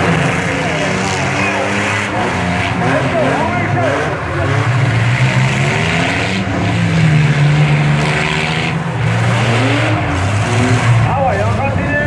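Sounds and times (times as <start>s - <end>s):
car engines revving hard: 0.0s - 12.0s.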